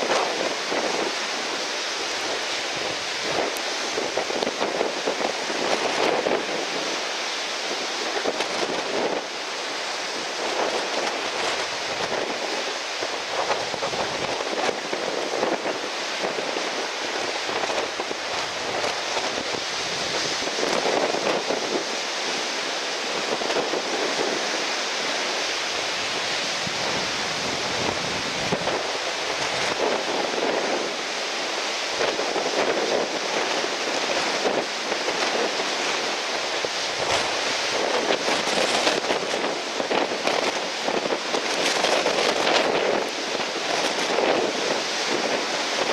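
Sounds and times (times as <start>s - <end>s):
strong wind on microphone: 0.0s - 45.9s
surf breaking: 0.0s - 45.9s.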